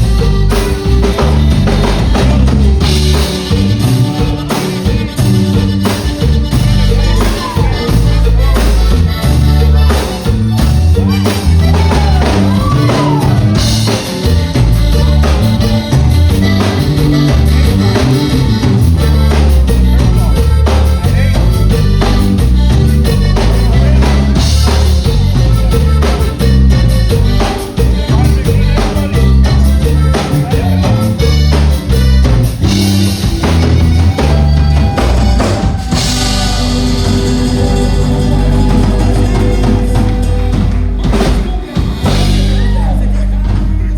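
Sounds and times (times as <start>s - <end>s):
accordion: 0.0s - 43.9s
bass line: 0.0s - 43.9s
drum kit beat: 0.0s - 43.9s
live band playing: 0.0s - 43.9s.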